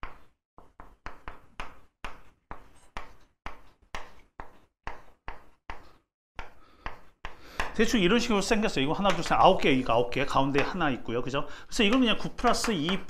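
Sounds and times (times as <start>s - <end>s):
chalk tapping and scraping: 0.0s - 11.0s, 11.8s - 13.0s.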